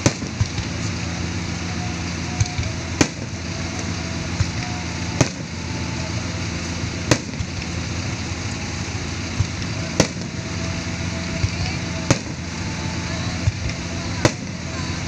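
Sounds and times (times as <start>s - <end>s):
background din: 0.0s - 15.0s
fireworks bangs: 0.0s - 15.0s.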